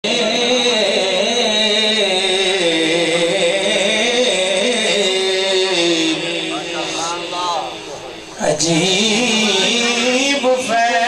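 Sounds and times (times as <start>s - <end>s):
man singing into a microphone: 0.0s - 7.8s, 8.4s - 11.0s.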